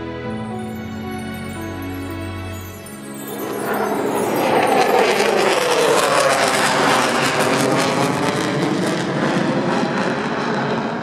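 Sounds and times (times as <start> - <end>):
jet aircraft passing over: 0.1 - 11.0.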